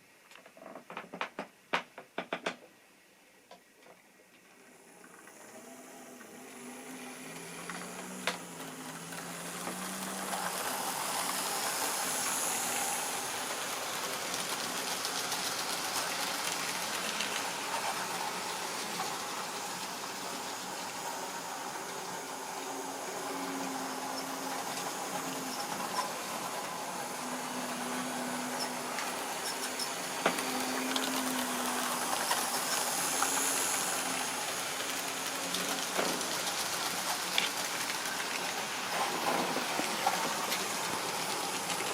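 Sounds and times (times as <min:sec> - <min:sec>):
model train wheels rattling: 0:06.1 - 0:41.9.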